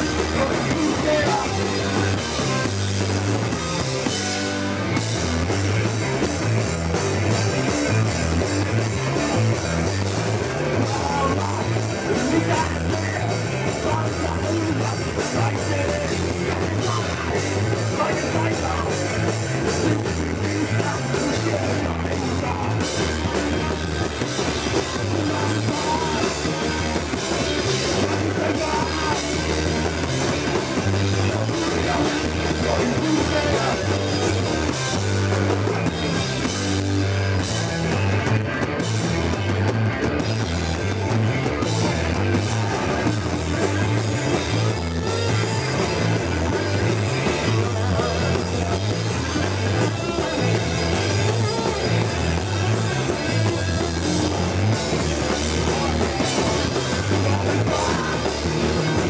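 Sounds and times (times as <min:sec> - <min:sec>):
vocals: 0:00.0 - 0:02.9, 0:07.8 - 0:36.5, 0:41.4 - 0:59.0
bass guitar: 0:00.0 - 0:59.0
distorted electric guitar: 0:00.0 - 0:59.0
drum kit: 0:00.0 - 0:59.0.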